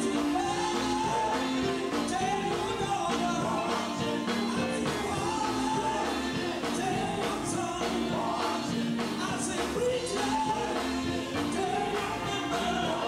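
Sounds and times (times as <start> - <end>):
gospel group singing: 0.0 - 13.0
instrumental backing with steady beat: 0.0 - 13.0.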